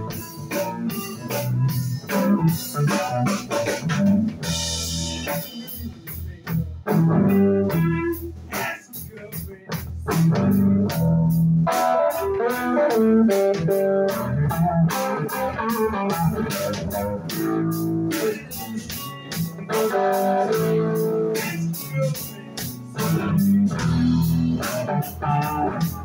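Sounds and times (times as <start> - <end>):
electric guitar: 0.0 - 8.7, 9.7 - 26.0
bass guitar: 0.0 - 26.0
drum kit: 0.0 - 26.0.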